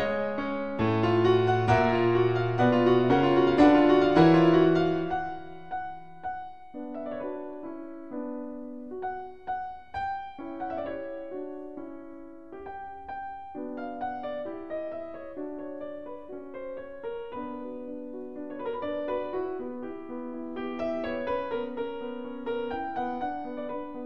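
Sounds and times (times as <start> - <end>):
solo piano classical piece: 0.0 - 24.0.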